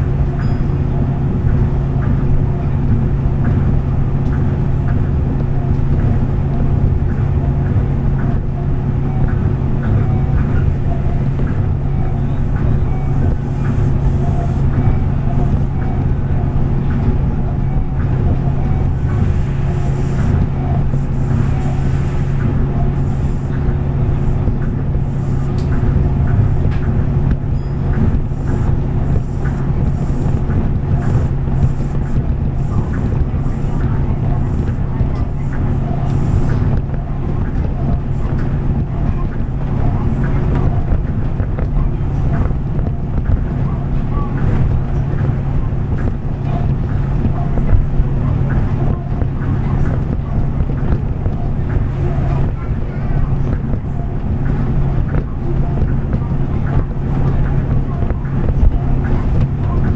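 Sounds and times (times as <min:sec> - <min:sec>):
monorail car rumbling: 0:00.0 - 0:59.9.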